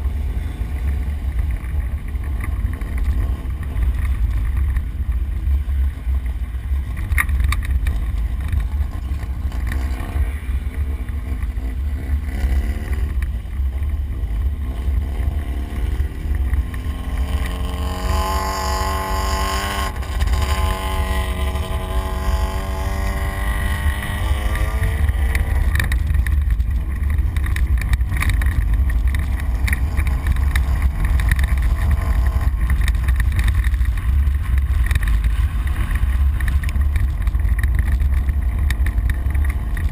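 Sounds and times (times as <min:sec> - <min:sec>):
truck engine rumbling off-road: 0:00.0 - 0:39.9.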